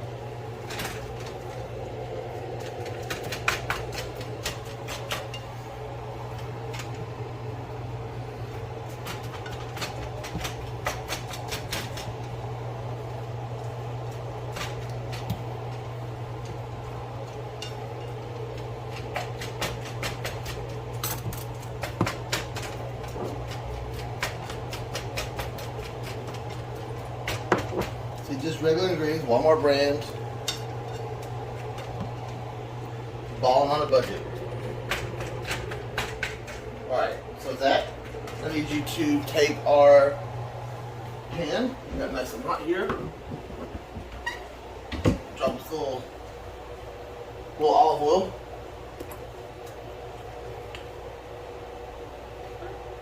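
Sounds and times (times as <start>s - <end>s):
fan humming: 0.0s - 53.0s.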